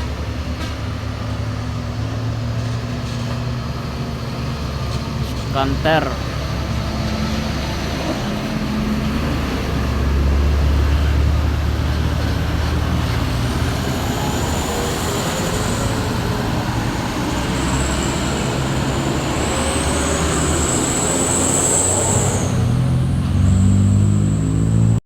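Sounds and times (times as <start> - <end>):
truck diesel engine: 0.0 - 25.0.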